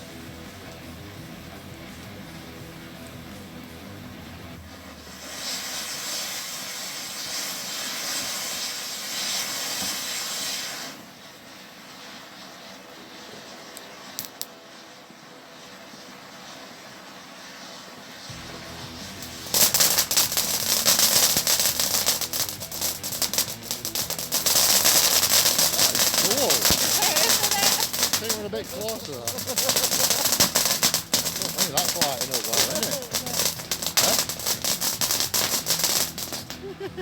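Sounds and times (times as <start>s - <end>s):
firework crackling: 0.0s - 37.0s
firework fountain hissing: 0.0s - 37.0s.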